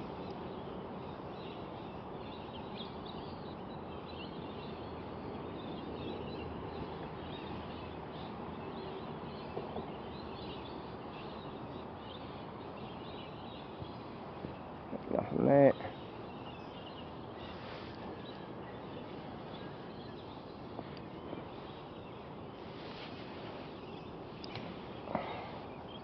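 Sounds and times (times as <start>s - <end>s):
creekside ambience: 0.0s - 26.0s
faint bird calls: 0.0s - 26.0s.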